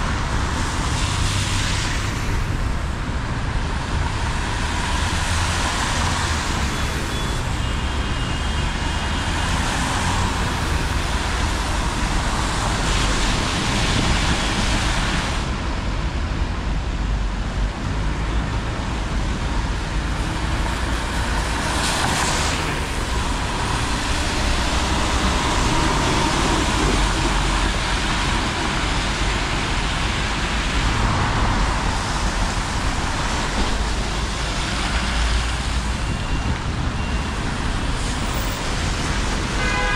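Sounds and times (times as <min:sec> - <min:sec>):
tyres hissing on wet road: 0:00.0 - 0:15.8, 0:18.1 - 0:39.9.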